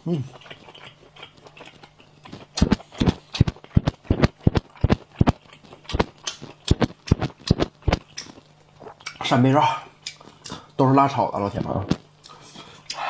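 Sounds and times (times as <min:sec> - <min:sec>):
person eating with lip-smacking: 0:00.0 - 0:10.8, 0:11.6 - 0:13.0.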